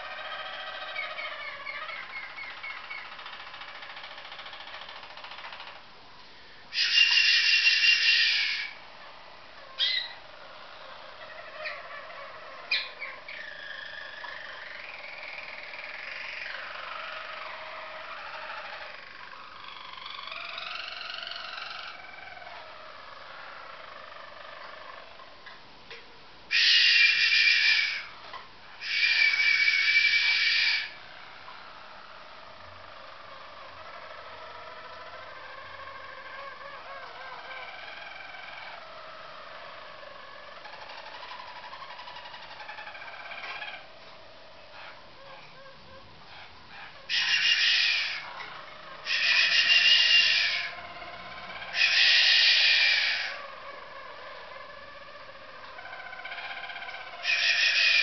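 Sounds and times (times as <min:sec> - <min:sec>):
canary singing rolls: 0:00.0 - 0:05.9, 0:06.7 - 0:25.4, 0:26.5 - 0:58.0.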